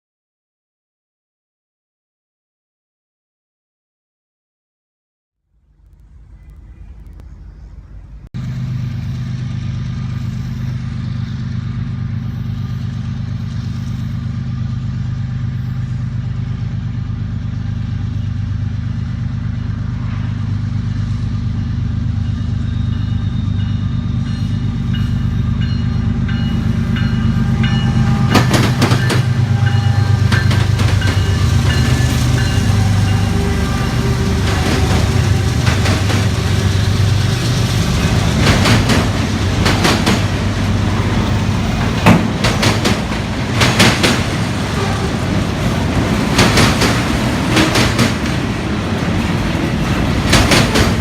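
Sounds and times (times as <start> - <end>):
diesel locomotive engines droning: 5.5 - 51.0.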